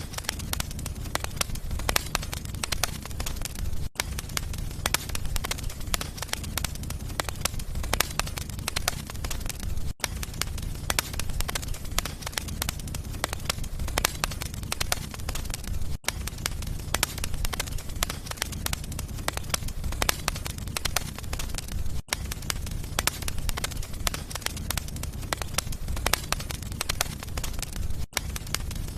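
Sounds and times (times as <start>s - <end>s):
fire crackling and popping: 0.0s - 28.9s
low rumble of flames: 0.0s - 28.9s.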